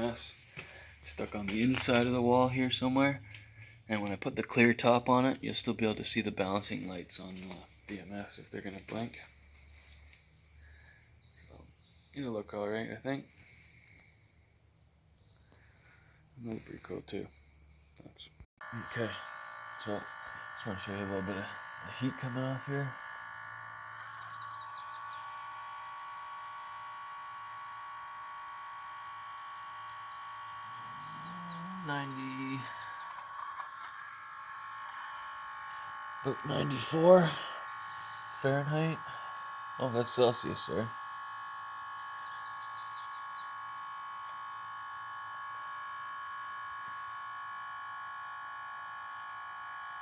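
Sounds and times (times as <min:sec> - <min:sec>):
electrical buzz and hum: 0:00.0 - 0:50.0.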